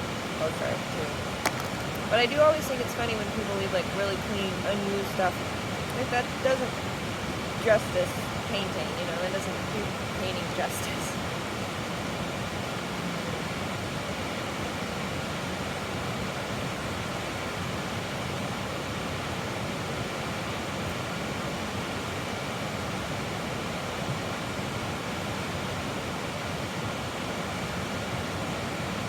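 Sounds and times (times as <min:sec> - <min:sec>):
creek water rushing: 0:00.0 - 0:29.0.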